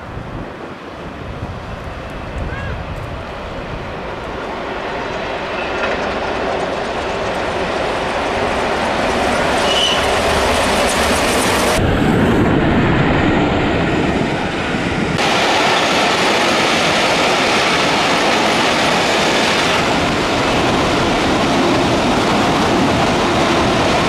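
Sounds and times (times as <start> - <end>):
train wheels rumbling on rails: 1.0 - 24.0.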